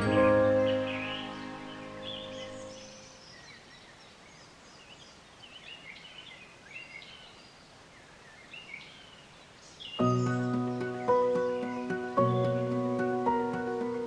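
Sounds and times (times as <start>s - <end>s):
outdoor background hiss: 0.0s - 14.0s
small birds chirping: 0.0s - 14.0s.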